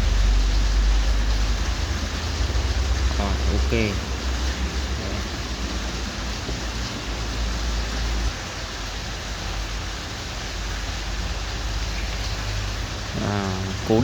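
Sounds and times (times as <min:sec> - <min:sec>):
background hiss: 0:00.0 - 0:14.0
low hum: 0:00.0 - 0:14.0.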